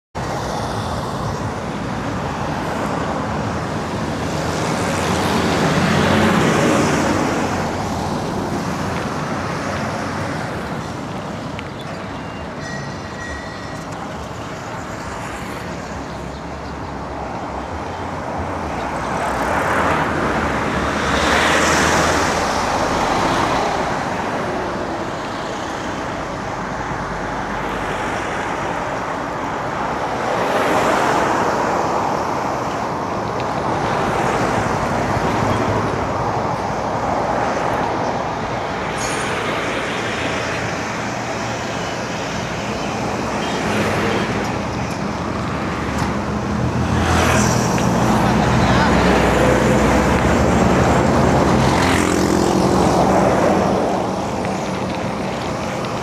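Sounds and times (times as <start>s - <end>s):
passing cars and trucks: 0.1s - 56.0s.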